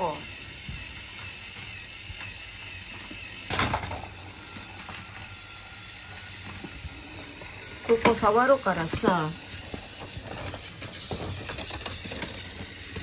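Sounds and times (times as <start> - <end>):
toy mechanism clicking: 0.0 - 13.0.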